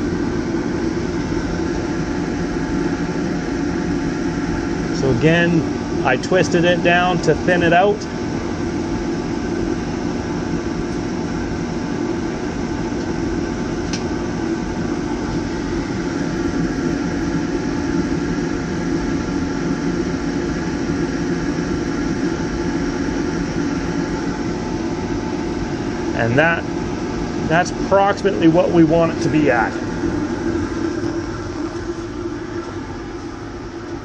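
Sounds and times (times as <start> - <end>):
constant hum: 0.0 - 34.0
oil furnace rushing burn: 0.0 - 34.0.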